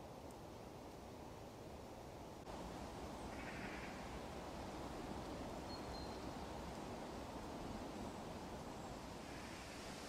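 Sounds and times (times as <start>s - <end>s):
wind through trees: 0.0s - 10.0s.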